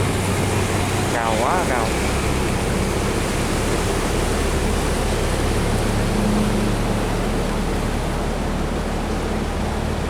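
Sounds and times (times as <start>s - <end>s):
boat engine droning: 0.0s - 10.0s
water rushing through sluice gate: 0.0s - 10.0s.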